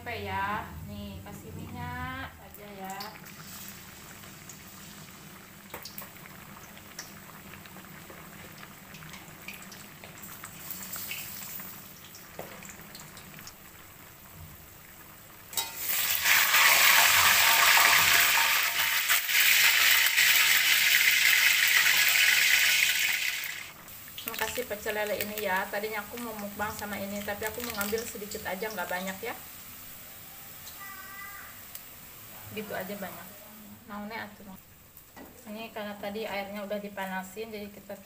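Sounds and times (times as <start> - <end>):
food sizzling in hot oil: 2.5 - 33.4.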